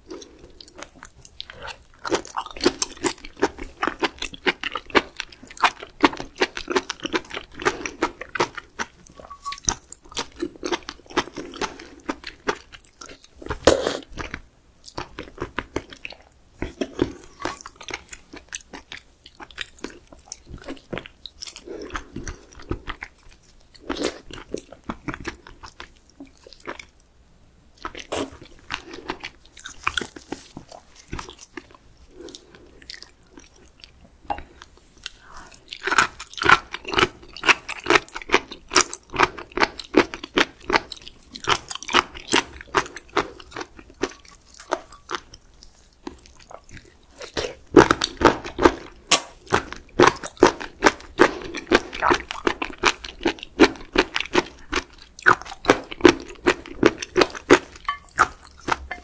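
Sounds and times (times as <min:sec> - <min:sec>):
wet chewing and crunching: 0:00.0 - 0:27.1, 0:27.7 - 0:59.0.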